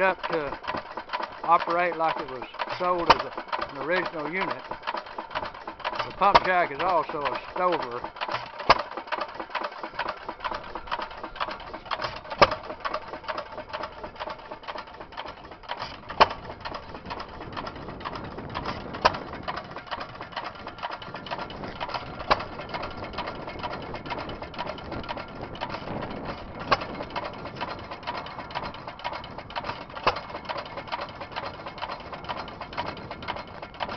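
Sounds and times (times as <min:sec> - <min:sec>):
engine running gear clatter: 0:00.0 - 0:33.9.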